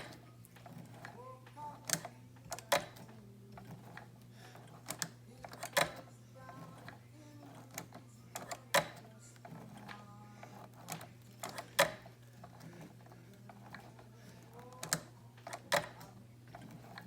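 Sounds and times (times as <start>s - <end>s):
sewing machine clacking: 0.0s - 17.0s.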